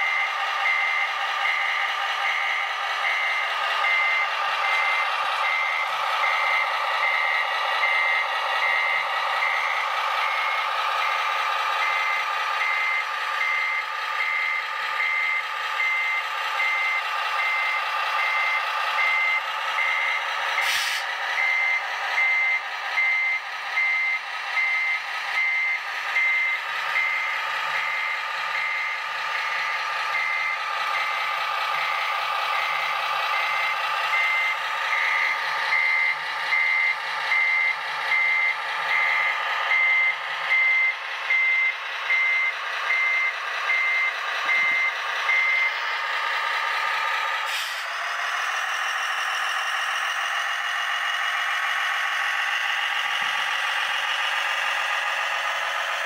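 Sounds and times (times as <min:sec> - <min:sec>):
reversing beeper: 0:00.0 - 0:47.8
diesel engine sound from speaker: 0:00.0 - 0:56.0.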